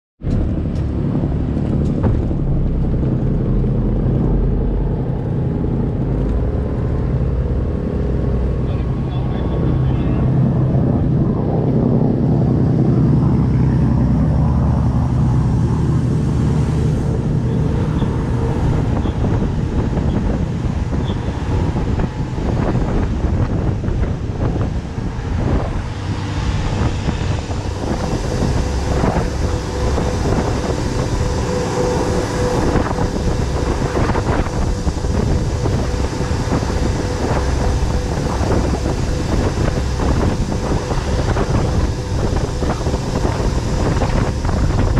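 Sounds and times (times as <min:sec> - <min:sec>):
motorboat engine drone: 0:00.2 - 0:44.9
wind buffeting microphone: 0:00.2 - 0:44.9.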